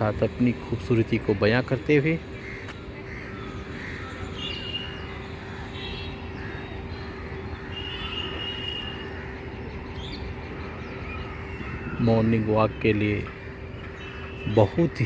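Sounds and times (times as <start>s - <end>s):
birds calling: 0.0s - 15.0s
city traffic rumble: 0.0s - 15.0s
open-air hum: 0.0s - 15.0s.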